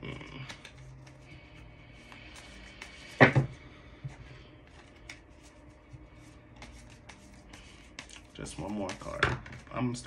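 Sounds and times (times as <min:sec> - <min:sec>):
cards being shuffled: 0:00.4 - 0:03.4, 0:04.6 - 0:09.8.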